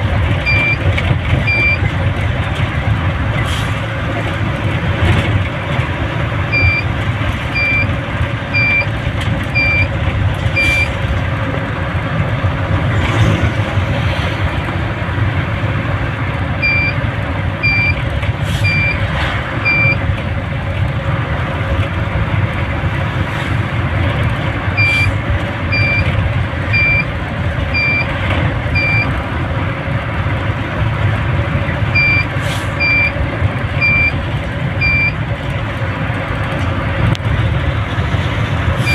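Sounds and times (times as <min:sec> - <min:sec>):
road noise: 0:00.0 - 0:38.9
vehicle engine: 0:00.0 - 0:38.9.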